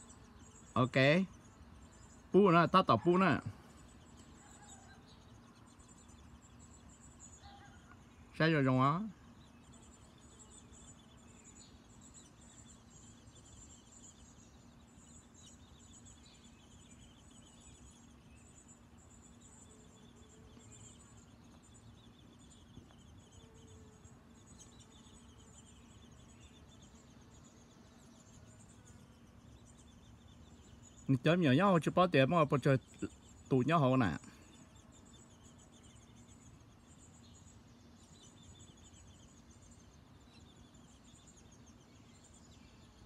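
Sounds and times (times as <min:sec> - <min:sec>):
faint low hum: 0:00.0 - 0:43.0
insects chirping and trilling: 0:00.0 - 0:43.0.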